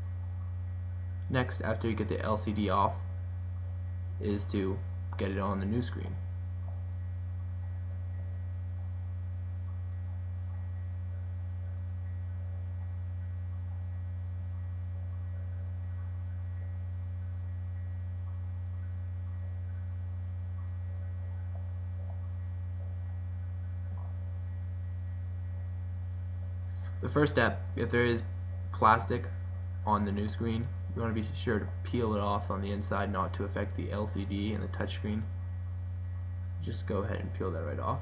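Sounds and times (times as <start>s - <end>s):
low electrical mains hum: 0.0s - 38.0s.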